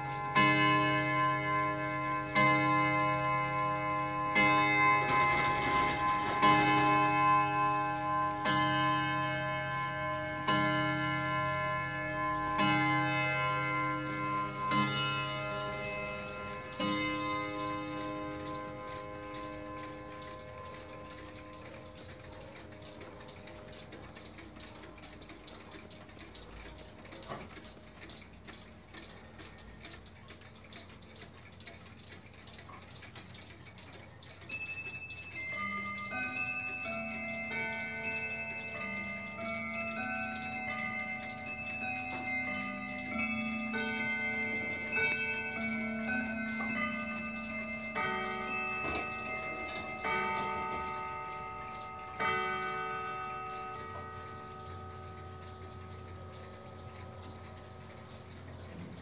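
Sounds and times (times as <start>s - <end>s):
clock chiming melody: 0.0s - 59.0s
clock strikes: 0.0s - 59.0s
mechanical clocks ticking: 0.0s - 59.0s.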